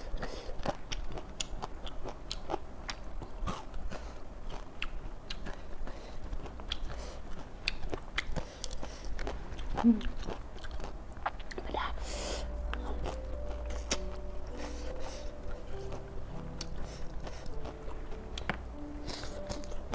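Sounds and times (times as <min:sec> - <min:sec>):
chewing and crunching raw vegetables: 0:00.0 - 0:19.9.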